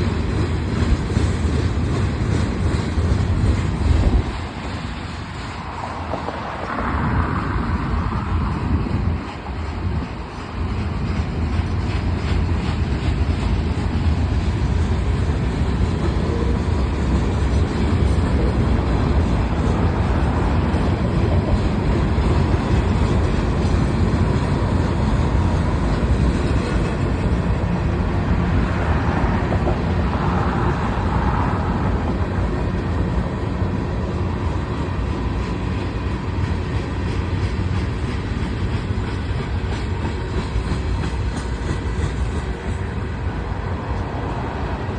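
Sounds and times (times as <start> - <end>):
freight train wheels rumbling on rails: 0.0 - 44.9.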